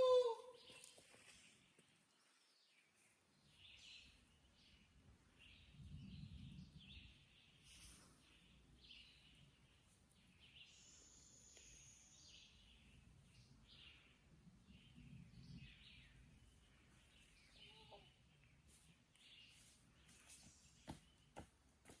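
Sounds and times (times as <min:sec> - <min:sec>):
faint wild birds chirping: 0:00.0 - 0:22.0.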